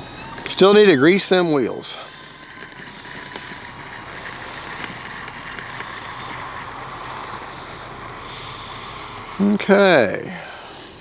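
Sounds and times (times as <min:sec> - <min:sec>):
distant model plane motor whir: 0:00.0 - 0:11.0.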